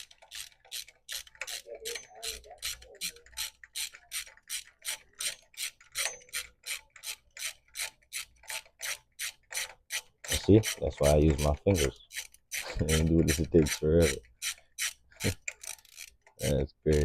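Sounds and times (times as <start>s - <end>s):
socket ratchet clicking: 0.0s - 17.0s.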